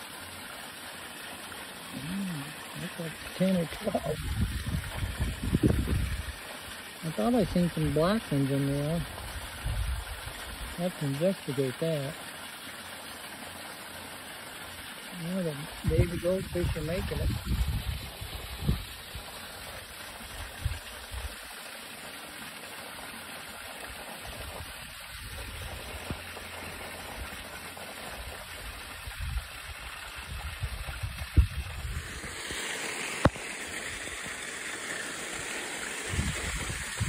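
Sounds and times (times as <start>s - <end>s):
water running into a pond: 0.0s - 37.0s.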